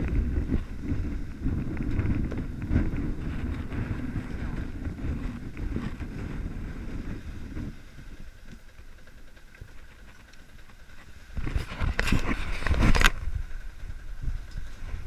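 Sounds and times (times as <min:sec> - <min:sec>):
wind and water rushing: 0:00.0 - 0:15.0
wind crackling on microphone: 0:00.0 - 0:15.0.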